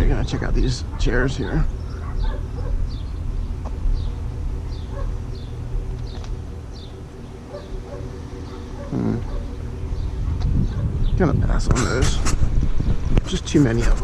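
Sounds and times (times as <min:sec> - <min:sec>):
bird chirping: 0:00.0 - 0:11.4
steady low rumble: 0:00.0 - 0:14.0.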